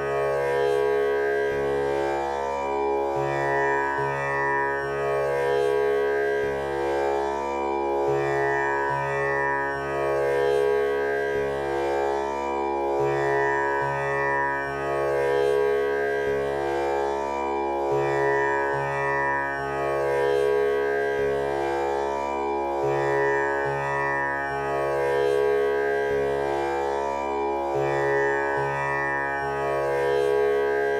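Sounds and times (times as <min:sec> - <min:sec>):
tanpura drone: 0:00.0 - 0:30.9.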